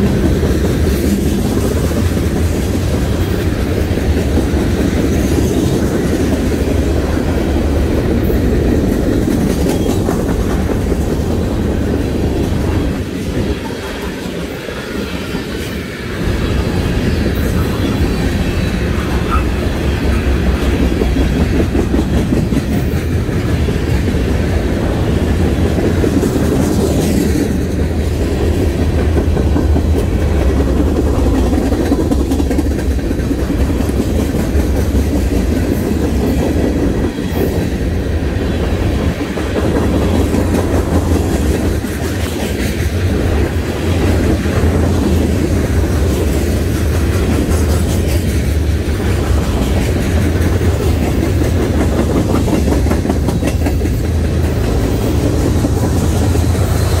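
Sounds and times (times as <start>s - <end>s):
wheels clicking over rail joints: 0.0s - 15.8s, 19.2s - 57.0s
train wheels rumbling on rail: 0.0s - 57.0s.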